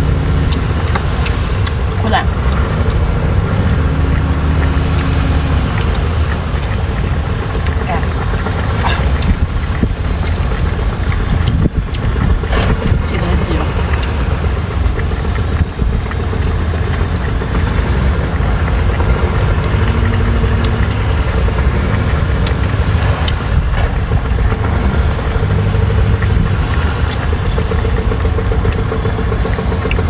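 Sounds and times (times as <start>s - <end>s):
motor running with low rumble: 0.0s - 30.0s
faint clicks: 0.1s - 30.0s.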